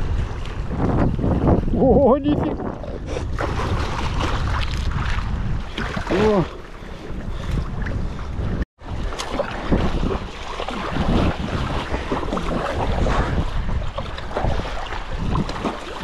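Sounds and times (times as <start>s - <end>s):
wind rumbling on microphone: 0.0s - 16.0s
waves splashing: 2.2s - 16.0s.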